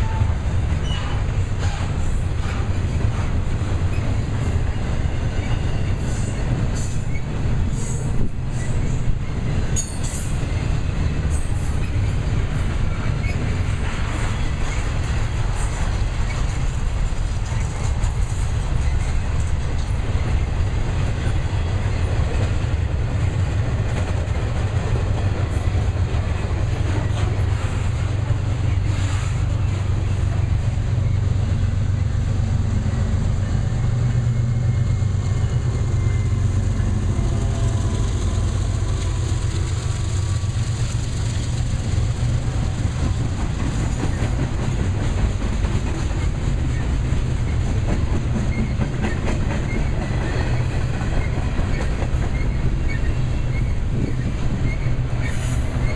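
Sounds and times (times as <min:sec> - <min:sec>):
train wheels rumbling on rail: 0:00.0 - 0:55.9
clatter over rail joints: 0:00.7 - 0:32.0, 0:38.9 - 0:55.9.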